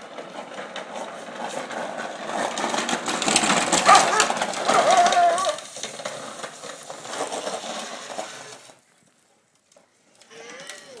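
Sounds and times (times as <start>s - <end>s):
plastic wheels rattling over asphalt: 0.0s - 11.0s.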